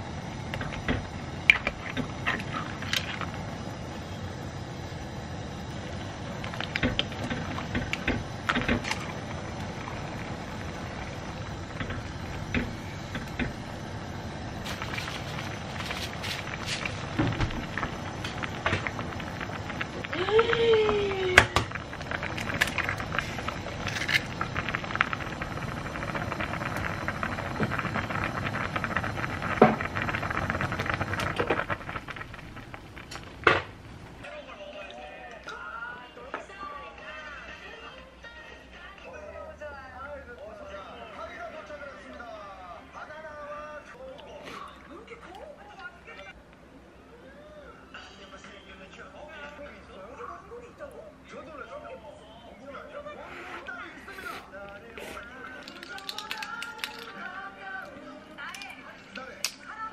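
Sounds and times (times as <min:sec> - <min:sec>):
stew simmering with low hiss: 0:00.0 - 0:59.9.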